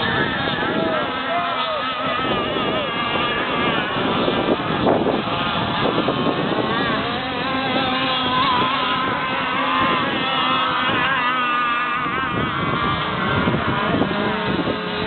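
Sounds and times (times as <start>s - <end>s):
model boat engine buzzing: 0.0s - 15.0s.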